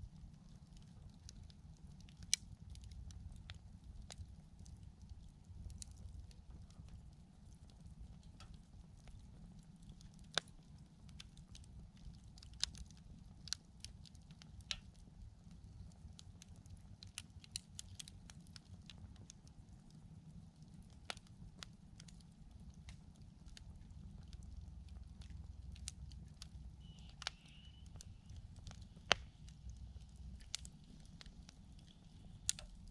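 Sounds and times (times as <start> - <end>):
campfire crackling and popping: 0.0 - 32.9.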